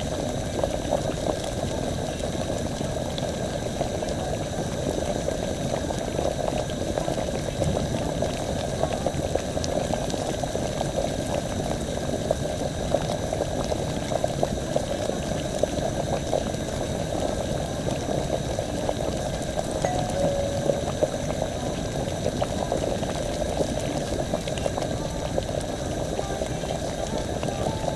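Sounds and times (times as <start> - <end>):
liquid boiling and bubbling: 0.0 - 27.9.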